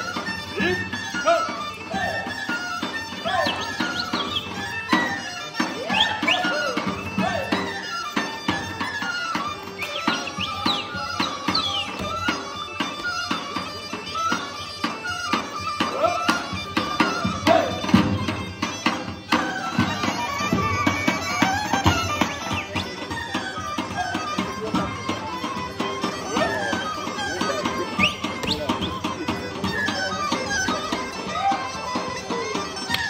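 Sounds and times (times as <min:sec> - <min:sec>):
ornamented wind instrument melody: 0:00.0 - 0:33.0.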